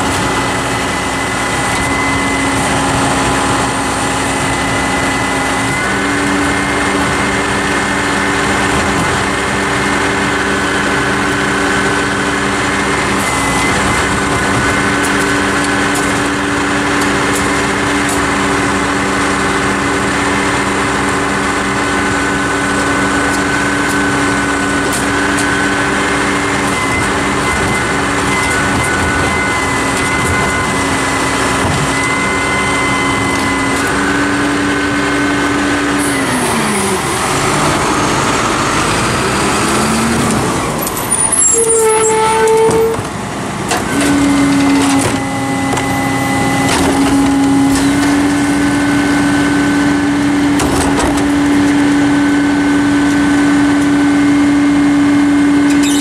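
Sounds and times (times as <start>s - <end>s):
garbage truck engine running: 0.0s - 56.0s
hydraulic whine: 0.0s - 56.0s.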